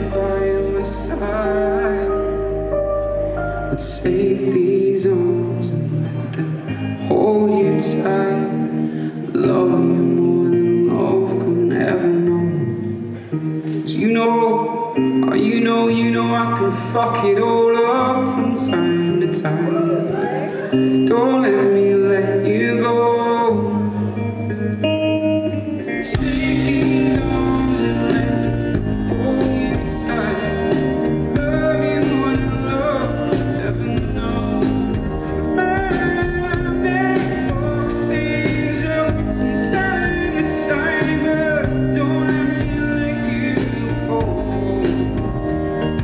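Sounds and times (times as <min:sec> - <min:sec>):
electric guitar: 0:00.0 - 0:46.0
live band playing pop song: 0:00.0 - 0:46.0.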